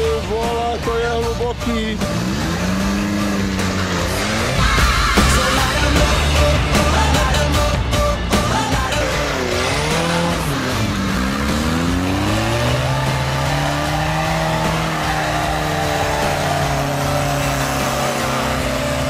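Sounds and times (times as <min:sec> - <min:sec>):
engine revving hard: 0:01.6 - 0:19.0.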